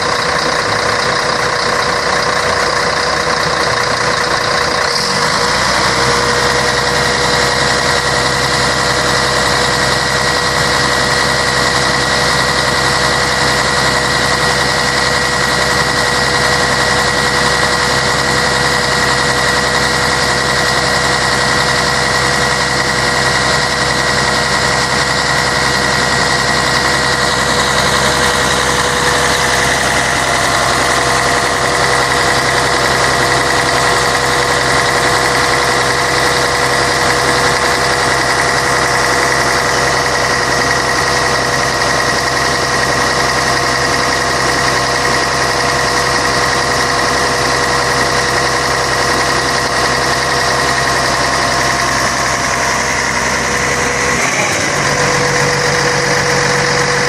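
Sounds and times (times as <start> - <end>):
bus diesel engine running: 0.0 - 57.0
constant whine: 0.0 - 57.0.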